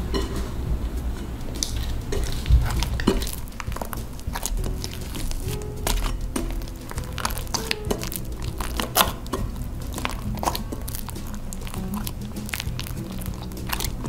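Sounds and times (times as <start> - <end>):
background music: 0.0 - 14.0
hands kneading wet dough: 0.0 - 14.0.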